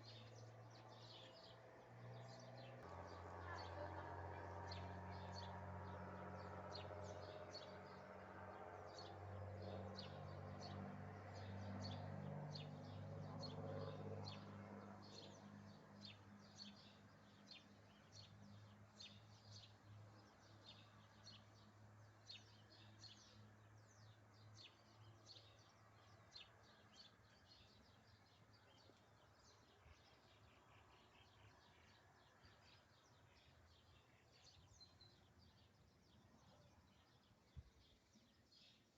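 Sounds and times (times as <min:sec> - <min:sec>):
small birds chirping: 0:00.0 - 0:08.0, 0:11.4 - 0:38.9.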